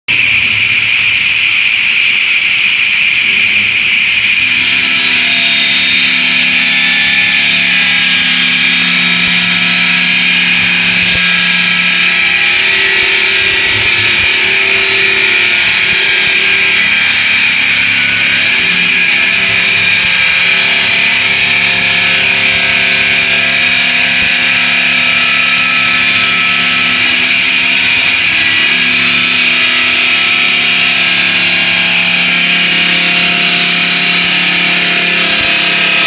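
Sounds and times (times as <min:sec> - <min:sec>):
circular saw cutting concrete: 0:00.1 - 0:36.0.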